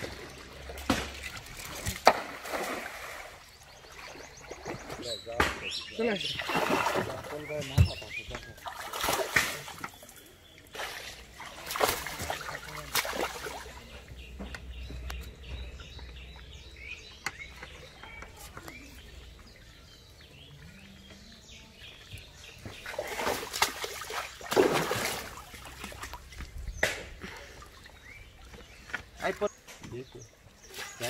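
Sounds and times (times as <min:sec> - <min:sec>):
water splashing: 0:00.0 - 0:14.4, 0:17.5 - 0:31.0.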